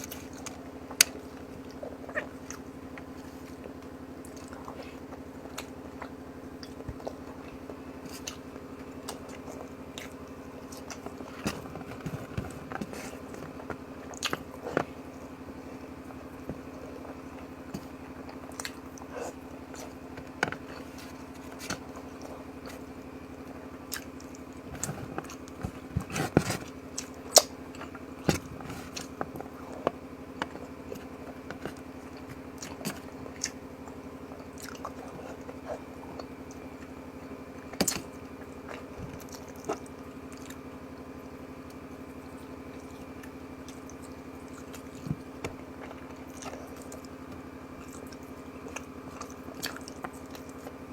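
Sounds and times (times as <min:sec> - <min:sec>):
person chewing with mouth smacks: 0:00.0 - 0:40.7, 0:42.4 - 0:50.8.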